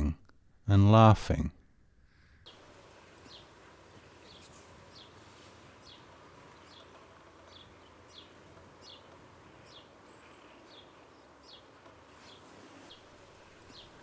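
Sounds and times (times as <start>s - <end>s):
low background hum: 0.0s - 14.0s
small bird calling: 2.5s - 14.0s.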